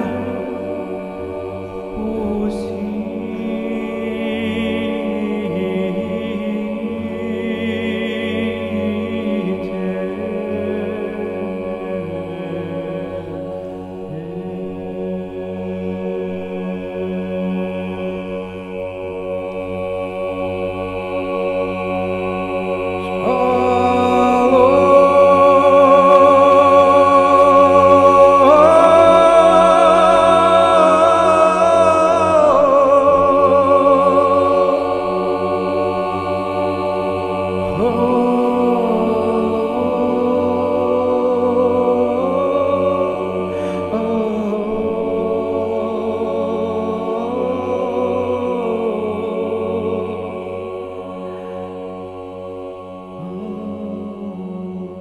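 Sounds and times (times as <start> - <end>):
slow devotional chanting: 0.0 - 55.0
steady drone: 0.0 - 55.0.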